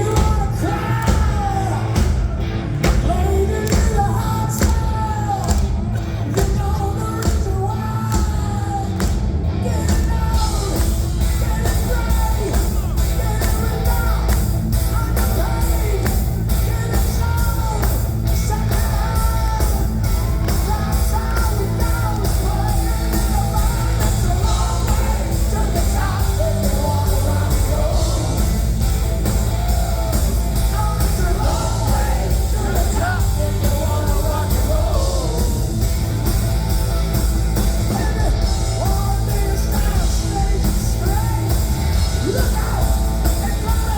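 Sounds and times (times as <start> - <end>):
loud rock music with singer: 0.0 - 43.9.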